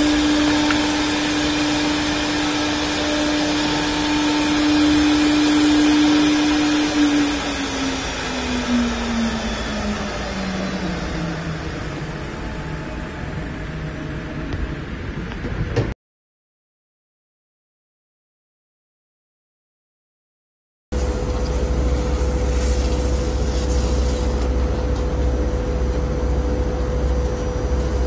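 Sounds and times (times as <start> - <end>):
spindle whine: 0.0 - 15.9, 21.0 - 28.0
fan rushing: 0.0 - 16.0, 21.0 - 28.0.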